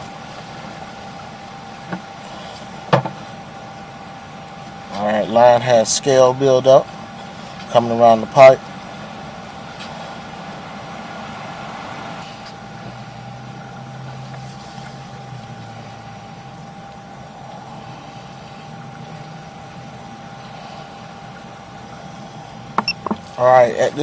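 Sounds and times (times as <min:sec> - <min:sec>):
low mechanical hum: 0:00.0 - 0:24.0
thin constant tone: 0:00.0 - 0:24.0.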